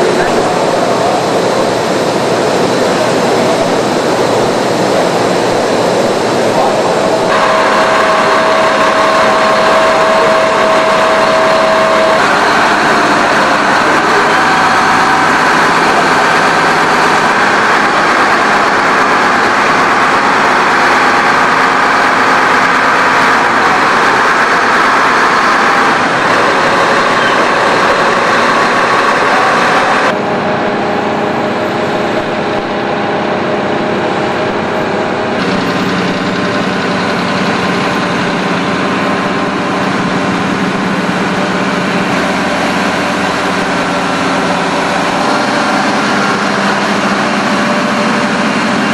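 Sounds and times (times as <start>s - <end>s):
forklift engine running: 0.0s - 48.9s.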